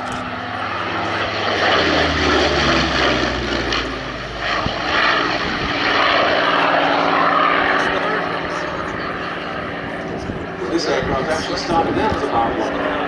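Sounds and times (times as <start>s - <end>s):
aircraft engine passing: 0.0s - 13.0s.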